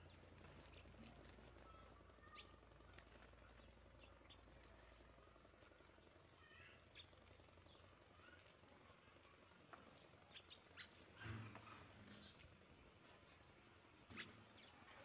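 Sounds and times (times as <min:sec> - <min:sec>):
low steady rumble: 0:00.0 - 0:14.8
sparrows chirping: 0:00.0 - 0:15.0.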